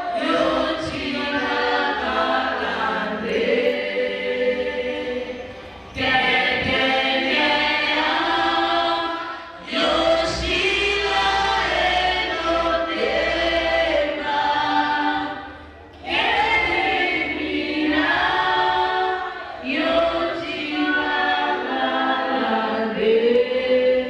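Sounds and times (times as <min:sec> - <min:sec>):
women's choir singing a hymn: 0:00.0 - 0:24.0.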